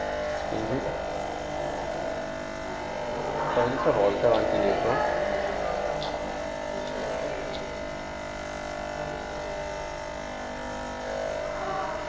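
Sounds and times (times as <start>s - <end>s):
espresso machine pump running: 0.0s - 12.0s.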